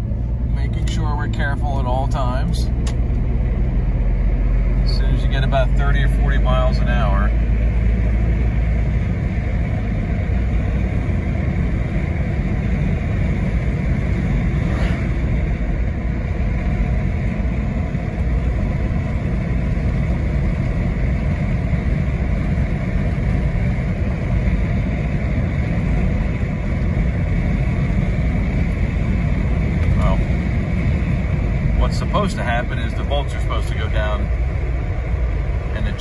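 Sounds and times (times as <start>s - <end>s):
car engine running steadily: 0.0s - 36.0s
road noise: 0.0s - 36.0s.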